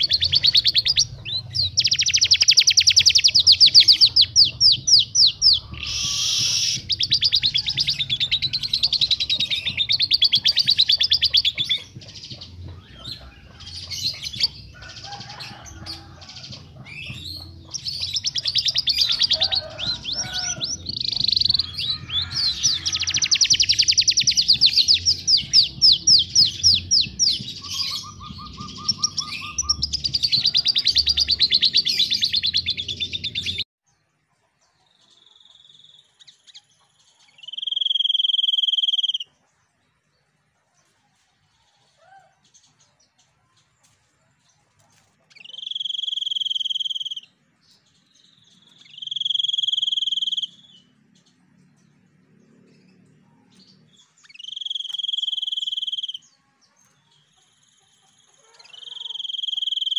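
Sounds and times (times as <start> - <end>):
songbirds trilling: 0.0 - 33.6, 34.4 - 59.9.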